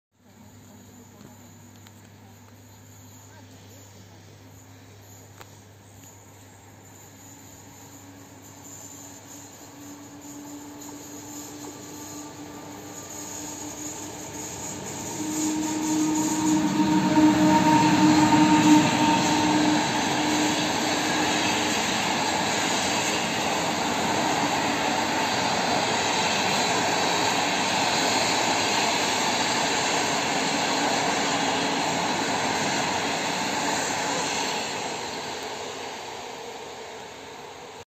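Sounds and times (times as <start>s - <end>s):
electric locomotive humming: 0.2s - 37.8s
train wheels rushing on rails: 5.4s - 37.8s.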